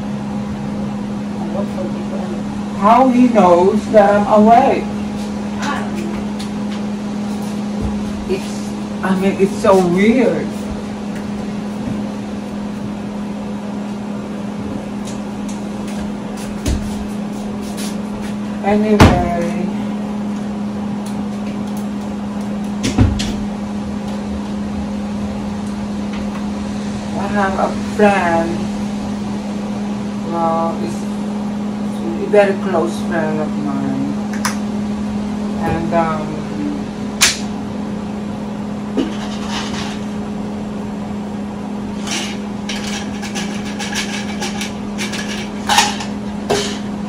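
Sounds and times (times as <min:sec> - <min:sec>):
kitchen appliance humming: 0:00.0 - 0:47.0.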